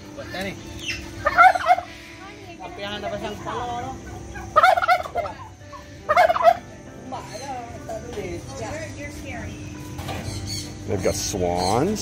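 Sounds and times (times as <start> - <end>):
turkeys gobbling: 0.0 - 9.2, 9.8 - 12.0.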